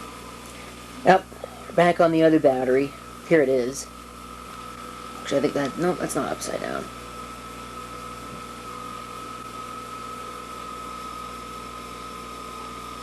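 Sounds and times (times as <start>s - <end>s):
camcorder high-pitched whine: 0.0s - 13.0s.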